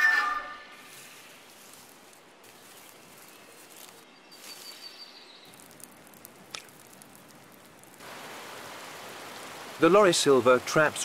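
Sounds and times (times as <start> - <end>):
soft forest hiss: 0.1 - 11.0.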